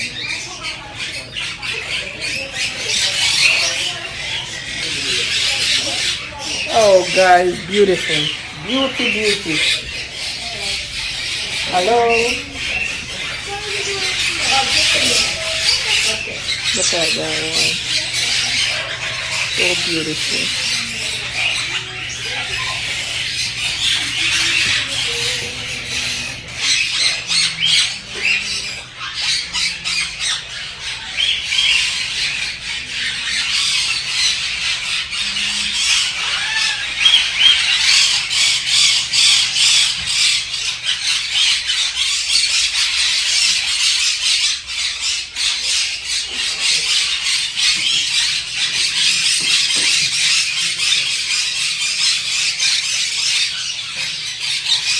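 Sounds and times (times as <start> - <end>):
parakeets chattering and squawking: 0.0 - 54.9.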